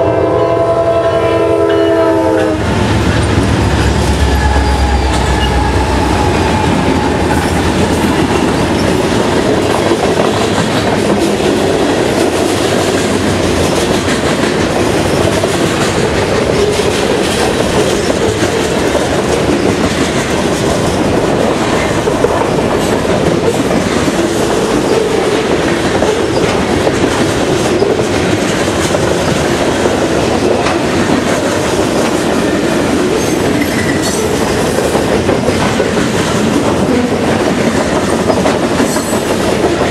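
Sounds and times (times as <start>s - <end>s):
diesel locomotive rumble: 0.0s - 33.6s
train wheels clacking on rail joints: 2.4s - 39.9s.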